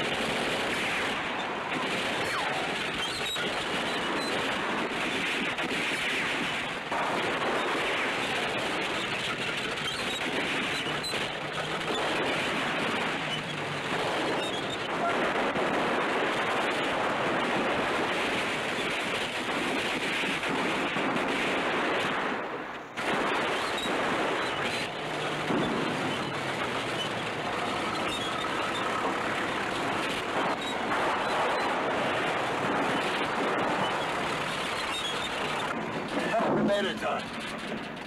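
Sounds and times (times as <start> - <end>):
bulldozer engine and tracks: 0.0 - 38.0
gunfire crackling: 0.0 - 38.0.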